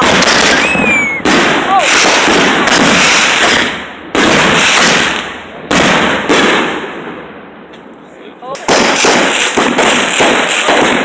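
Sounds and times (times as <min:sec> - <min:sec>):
fireworks exploding: 0:00.0 - 0:07.9, 0:08.5 - 0:11.0.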